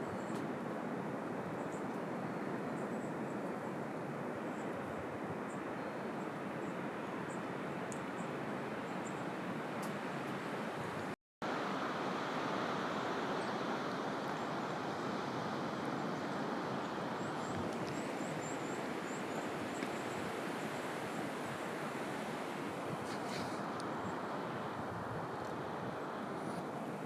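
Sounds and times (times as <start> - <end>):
strong wind through forest: 0.0 - 27.0.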